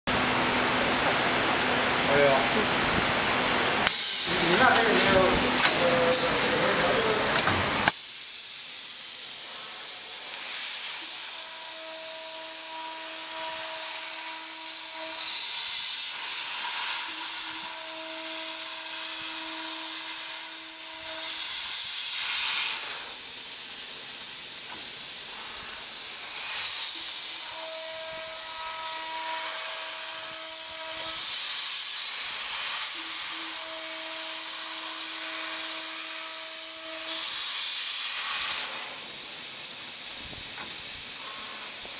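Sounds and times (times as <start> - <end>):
machine running with loud hiss: 0.1 - 41.9.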